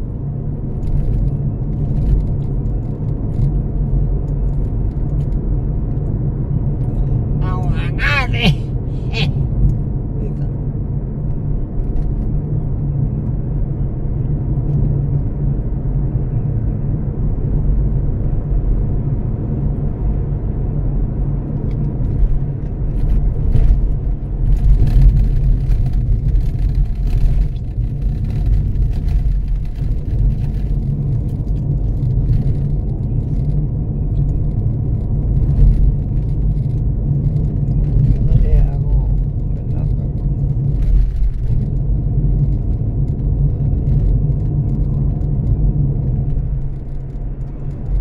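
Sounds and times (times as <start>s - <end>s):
engine and road noise in cabin: 0.0s - 48.0s.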